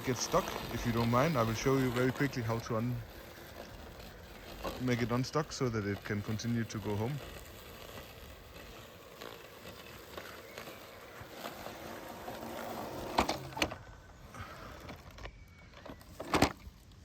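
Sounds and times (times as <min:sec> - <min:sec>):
robotic lawn mower motor hiss: 0:00.0 - 0:17.0.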